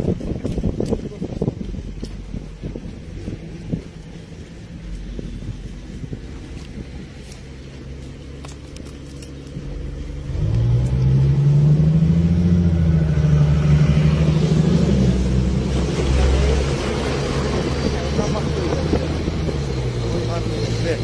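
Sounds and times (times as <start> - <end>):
heavy vehicle engine droning: 0.0 - 21.0.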